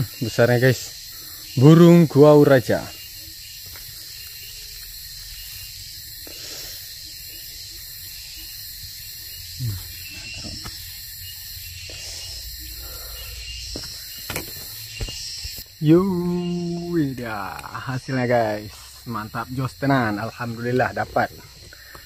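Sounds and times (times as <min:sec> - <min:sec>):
forest insects chorus: 0:00.0 - 0:22.0.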